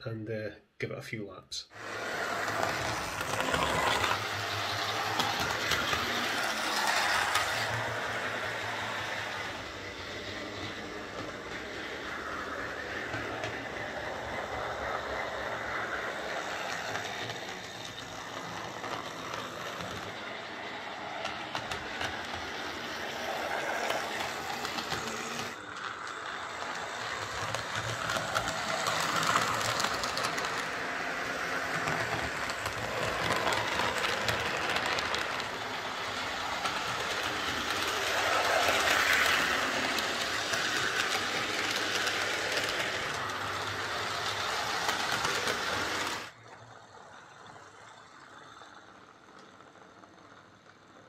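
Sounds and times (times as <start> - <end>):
model train motor whirring: 1.7 - 51.0.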